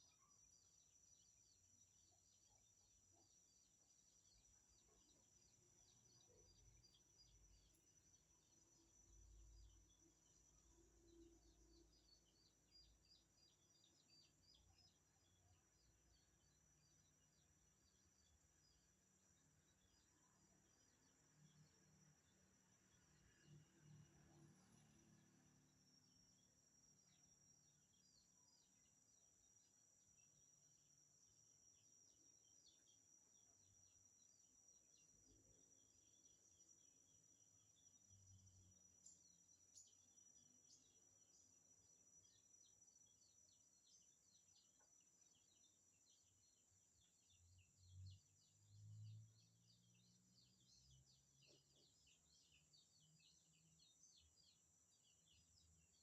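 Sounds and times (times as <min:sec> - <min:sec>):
faint insect whine: 0:00.0 - 0:56.0.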